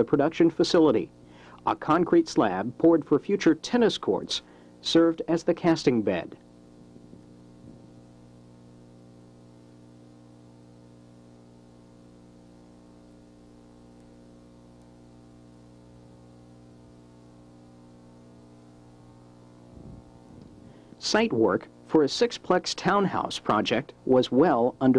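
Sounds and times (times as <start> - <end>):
faint electrical hum: 0.0 - 24.9.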